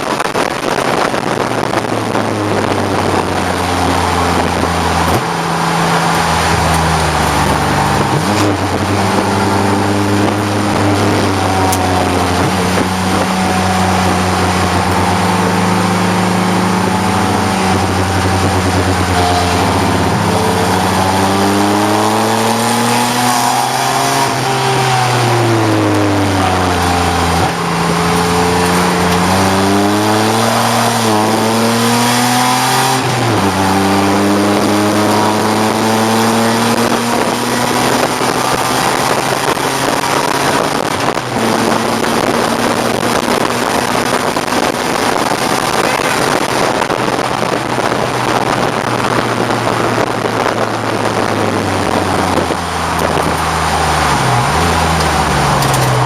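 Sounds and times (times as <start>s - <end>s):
car engine under load: 0.0s - 56.0s
wind and road noise: 0.0s - 56.0s.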